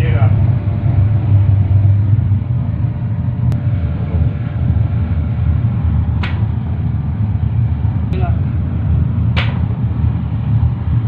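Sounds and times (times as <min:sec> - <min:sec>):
low machine rumble: 0:00.0 - 0:11.0.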